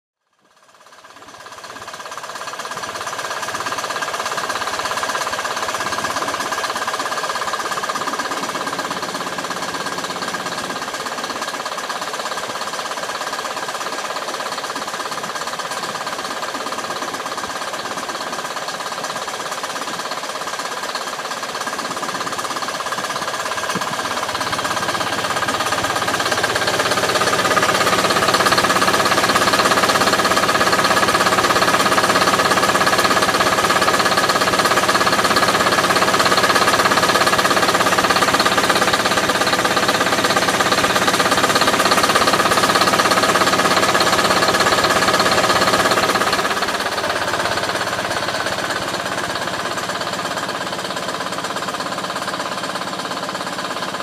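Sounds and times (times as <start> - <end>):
two-stroke diesel engine running: 0.2 - 54.0.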